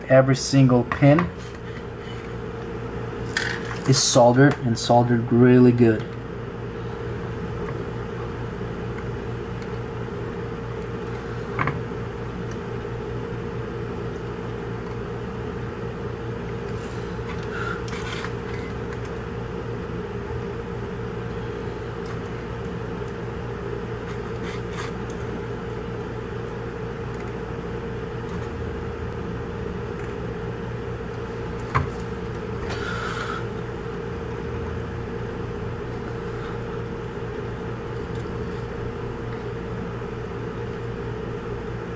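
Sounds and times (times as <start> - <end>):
machine hum: 0.0 - 41.9.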